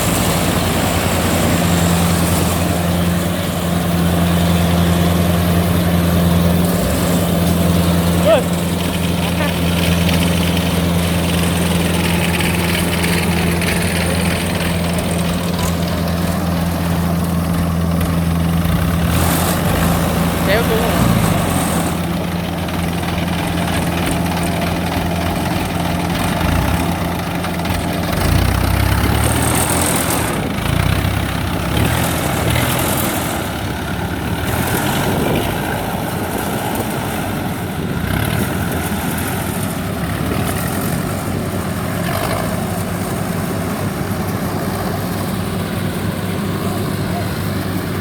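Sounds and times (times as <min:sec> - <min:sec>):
diesel engine running under load: 0:00.0 - 0:48.0.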